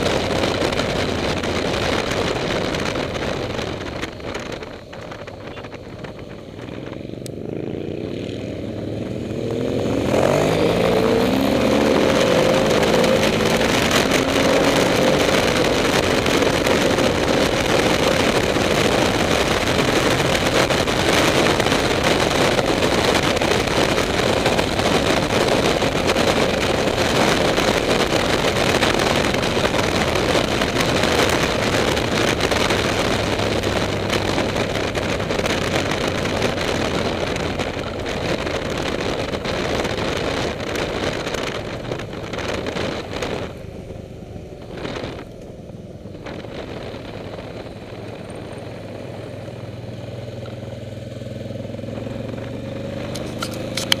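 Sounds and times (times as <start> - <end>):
loud rushing wind: 0.0 - 54.0
motorcycle engine: 0.0 - 54.0.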